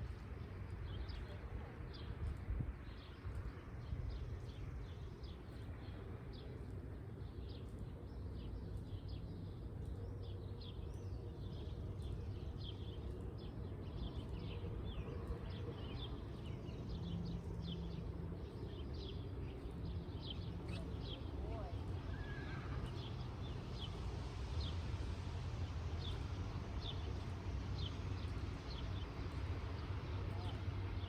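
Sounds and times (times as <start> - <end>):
songbirds chirping: 0.0 - 31.0
steady low rumble: 0.0 - 31.0.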